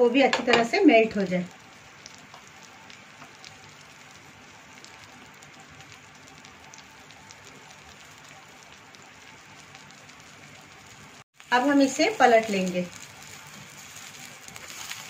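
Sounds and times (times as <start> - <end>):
butter sizzling: 0.0 - 15.0.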